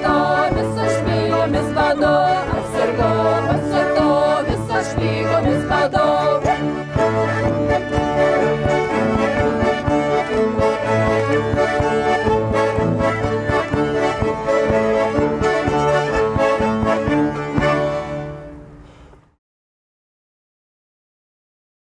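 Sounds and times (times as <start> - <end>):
bowed bass: 0.0 - 19.3
fiddles: 0.0 - 19.3
concertina: 0.0 - 19.4.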